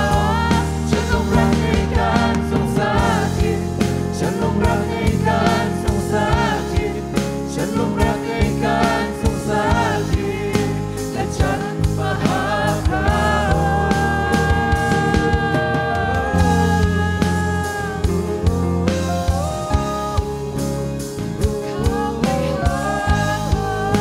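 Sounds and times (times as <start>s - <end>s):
drums: 0.0s - 24.0s
people singing worship song: 0.0s - 24.0s.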